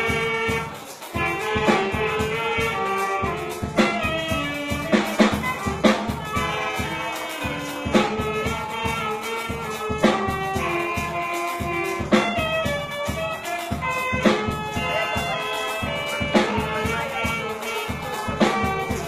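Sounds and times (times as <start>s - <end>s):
band playing brass and wind: 0.0s - 19.0s
drum beats: 0.0s - 19.0s.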